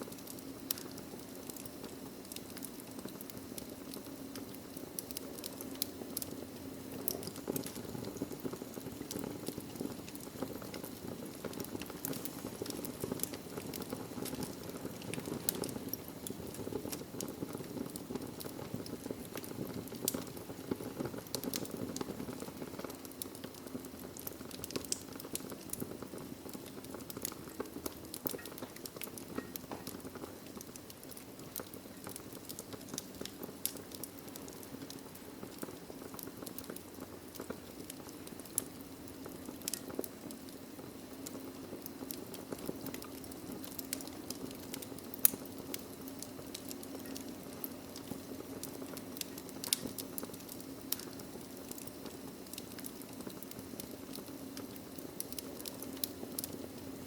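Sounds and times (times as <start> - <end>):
logs crackling and popping: 0.0 - 57.0
low rush of flames: 0.0 - 57.0.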